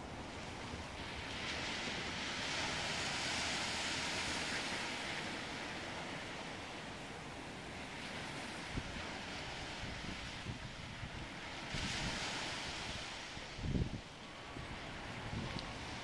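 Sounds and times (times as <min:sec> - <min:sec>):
surf breaking on sand beach: 0:00.1 - 0:16.0.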